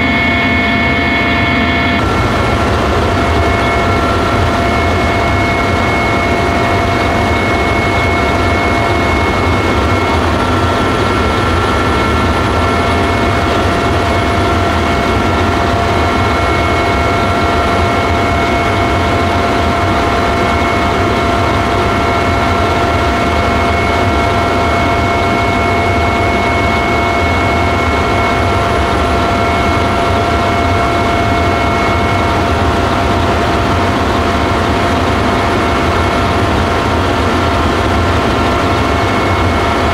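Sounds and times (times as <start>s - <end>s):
helicopter engine and rotor noise: 0.0s - 39.9s
high whine: 0.0s - 39.9s.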